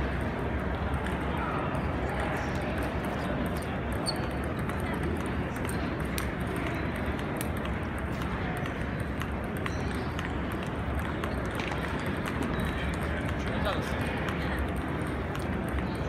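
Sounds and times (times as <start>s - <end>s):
table tennis balls clicking: 0.0s - 16.0s.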